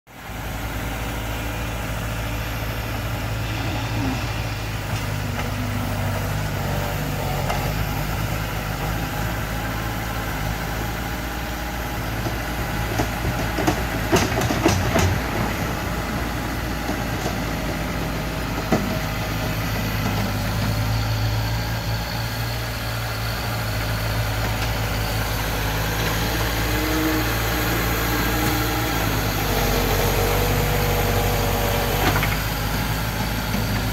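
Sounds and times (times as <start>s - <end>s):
bulldozer engine running: 0.1s - 33.9s.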